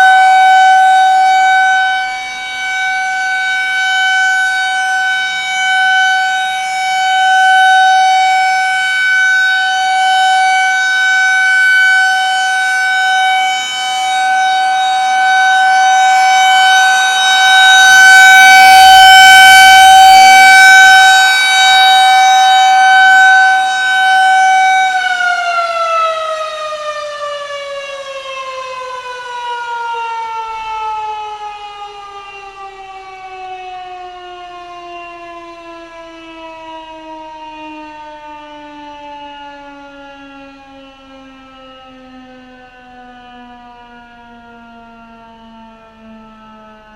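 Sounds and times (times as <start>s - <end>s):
rotating warning siren: 0.0s - 46.9s.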